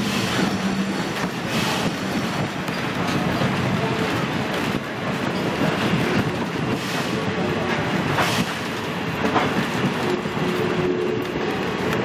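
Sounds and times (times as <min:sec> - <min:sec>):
train wheels clattering on track: 0:00.0 - 0:12.0.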